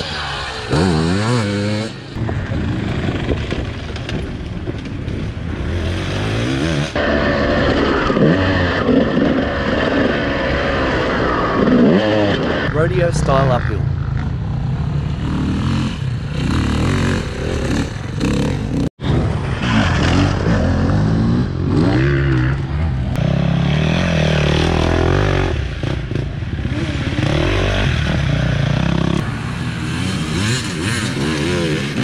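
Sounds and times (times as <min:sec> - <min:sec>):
dirt bikes revving: 0:00.0 - 0:03.9, 0:05.0 - 0:32.0.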